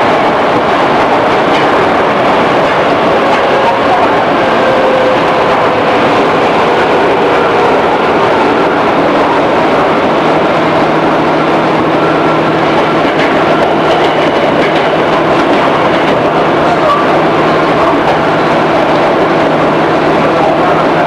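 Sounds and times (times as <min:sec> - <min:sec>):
train motors and wheels rumbling: 0:00.0 - 0:21.0.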